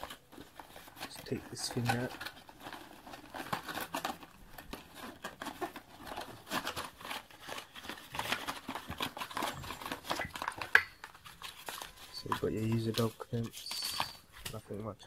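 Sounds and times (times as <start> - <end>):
cardboard packaging rustling: 0.0 - 15.0.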